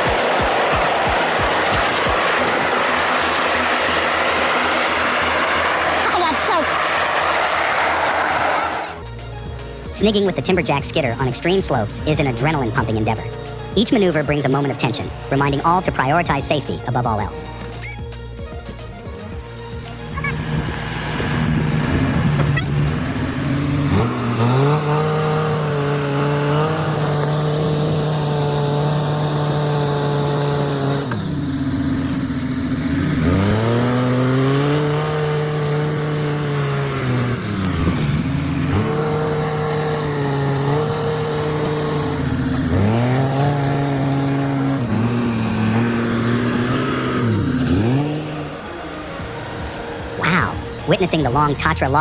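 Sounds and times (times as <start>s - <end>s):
diesel engine revving: 0.0s - 52.0s.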